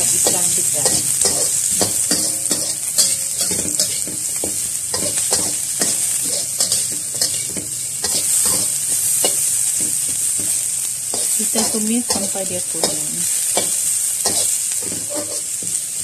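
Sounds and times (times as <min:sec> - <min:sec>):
food sizzling in hot oil: 0:00.0 - 0:16.0
metal spatula scraping wok: 0:00.0 - 0:16.0.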